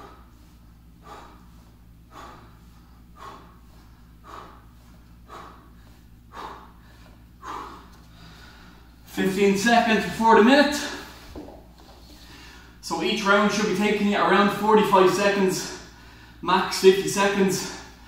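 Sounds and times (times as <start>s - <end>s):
man breathing heavily: 0.0s - 12.8s, 14.7s - 16.5s, 17.4s - 18.0s.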